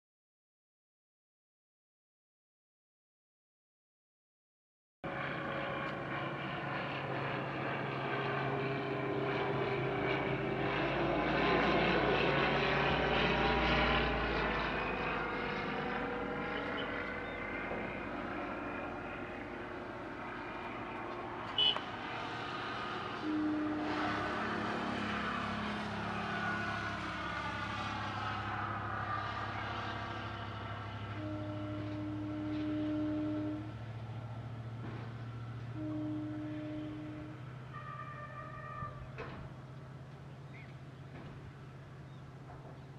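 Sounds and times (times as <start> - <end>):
propeller aircraft flying past: 5.0 - 42.9.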